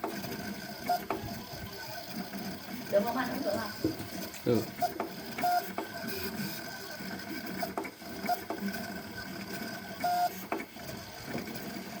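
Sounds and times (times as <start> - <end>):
motors whirring: 0.0 - 12.0.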